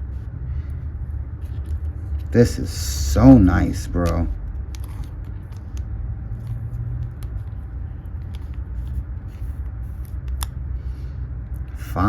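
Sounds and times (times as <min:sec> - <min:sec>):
steady low rumble: 0:00.0 - 0:12.0
trading cards clicking and rustling: 0:00.0 - 0:12.0.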